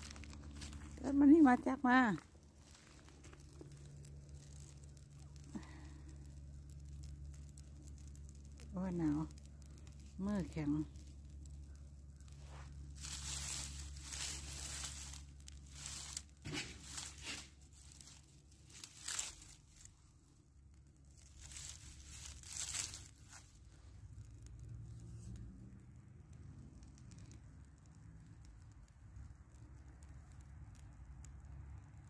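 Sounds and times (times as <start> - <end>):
fire crackling and hissing: 0.0 - 32.0.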